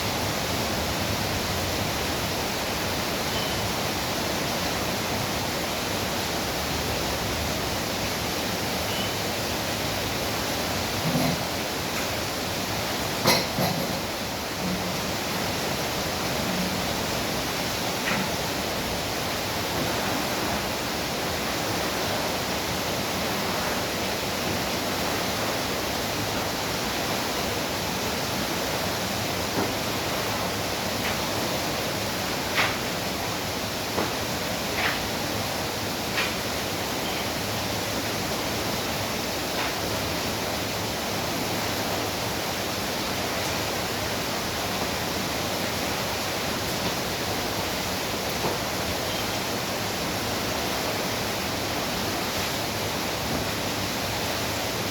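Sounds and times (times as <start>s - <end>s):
dense rainfall hissing: 0.0s - 54.9s.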